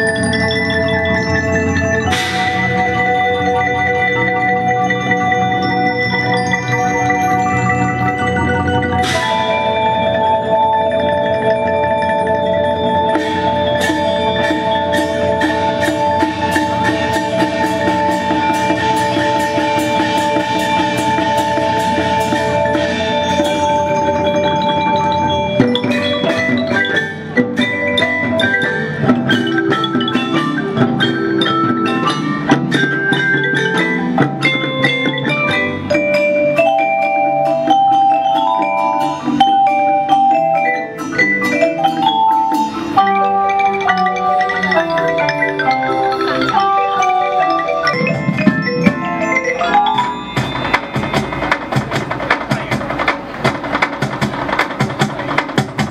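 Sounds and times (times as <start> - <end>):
drums: 0.0 - 55.9
tuned mallet instruments: 0.0 - 55.9.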